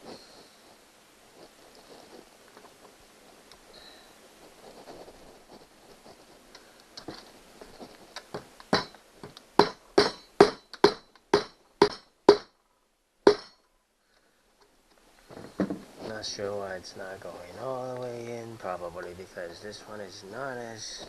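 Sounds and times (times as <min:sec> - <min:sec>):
quiet handling: 0:00.0 - 0:11.3, 0:14.5 - 0:21.0.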